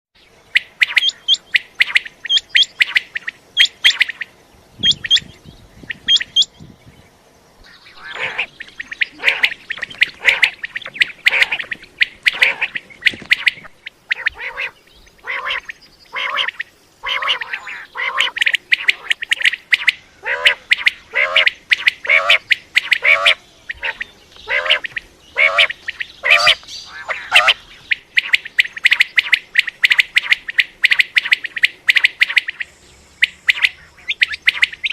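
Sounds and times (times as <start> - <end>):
quail calling: 0.5 - 6.6, 7.7 - 34.9.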